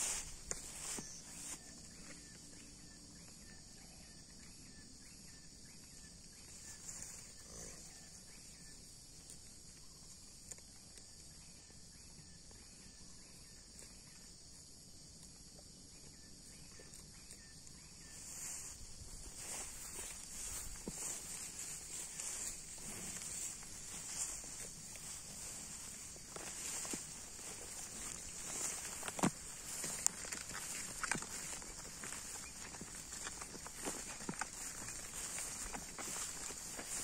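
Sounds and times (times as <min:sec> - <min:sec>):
high insect chorus: 0:00.0 - 0:37.0.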